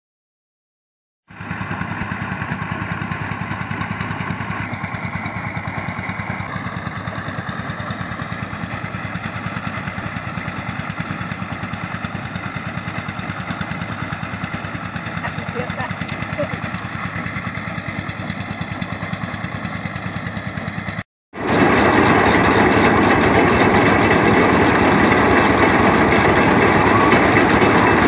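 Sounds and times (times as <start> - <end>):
engine chugging: 1.3 - 28.0.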